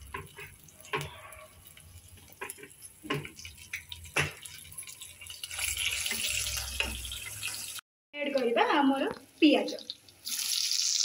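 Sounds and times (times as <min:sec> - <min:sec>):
oil popping and crackling: 0:00.0 - 0:11.0
spices sizzling in hot oil: 0:00.0 - 0:11.0.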